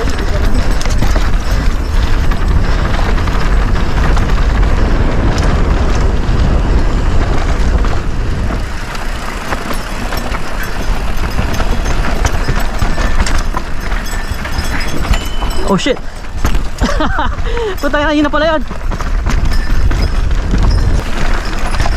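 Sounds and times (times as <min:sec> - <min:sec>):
bike chain and frame rattling: 0:00.0 - 0:21.9
tyres crunching on rock: 0:00.0 - 0:21.9
wind buffeting microphone: 0:00.0 - 0:21.9.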